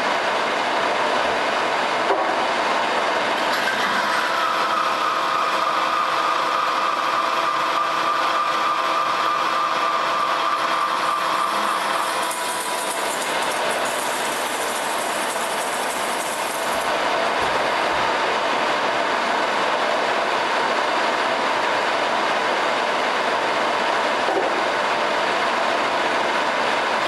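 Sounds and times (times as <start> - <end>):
lathe running: 0.1 - 26.7.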